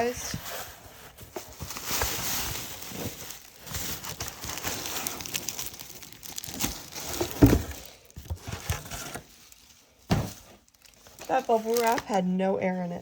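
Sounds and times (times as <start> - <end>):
plastic packaging crinkling: 1.1 - 12.5.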